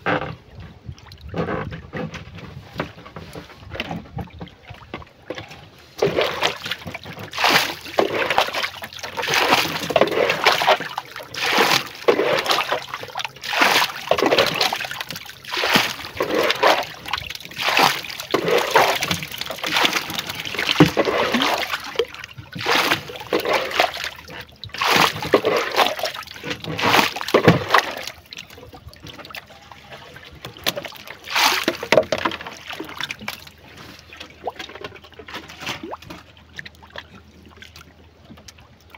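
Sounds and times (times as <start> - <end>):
water sloshing and splashing: 0.0 - 38.9.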